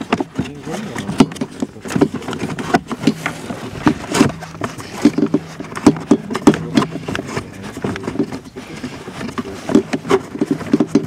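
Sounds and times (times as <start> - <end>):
plastic clicks and knocks: 0.0 - 11.0
scraping of plastic parts: 0.0 - 11.0.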